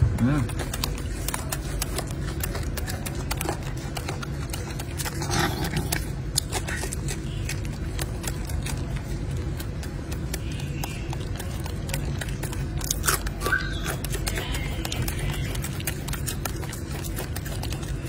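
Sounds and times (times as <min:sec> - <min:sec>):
monkey chewing fruit: 0:00.0 - 0:18.0.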